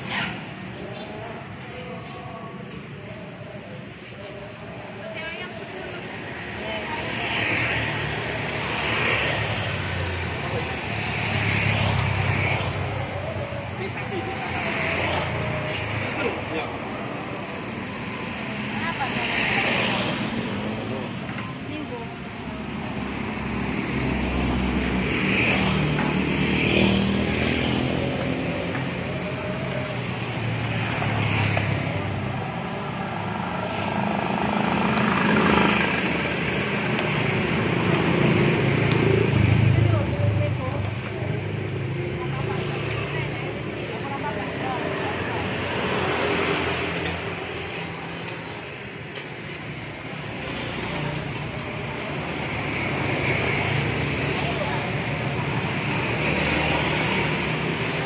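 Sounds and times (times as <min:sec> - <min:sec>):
motorbike engines passing: 0:00.0 - 0:58.0
street traffic noise: 0:00.0 - 0:58.0.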